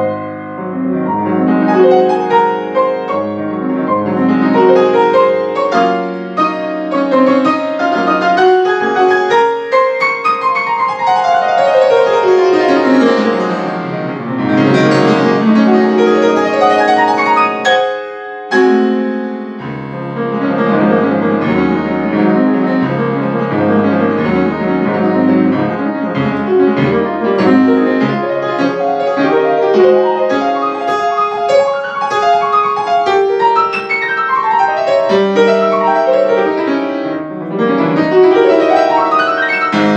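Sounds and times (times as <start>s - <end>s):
solo grand piano classical: 0.0s - 39.9s.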